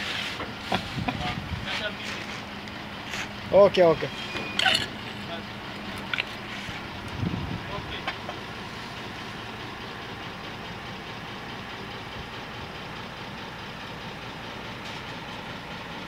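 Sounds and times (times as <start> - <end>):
heavy engine droning: 0.0 - 16.0.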